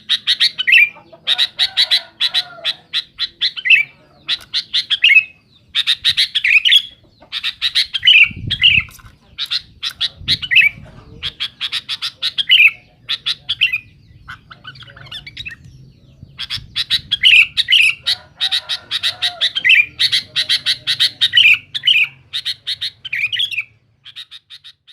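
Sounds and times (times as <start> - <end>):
bulbul singing chattering phrases: 0.0 - 24.9.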